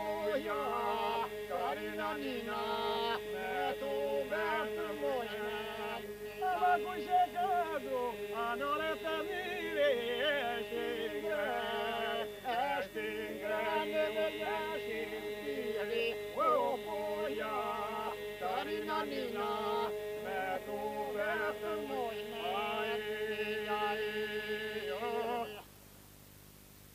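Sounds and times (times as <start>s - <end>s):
men's chorus drone note: 0.0s - 25.6s
men singing ornamented melody: 0.0s - 25.7s.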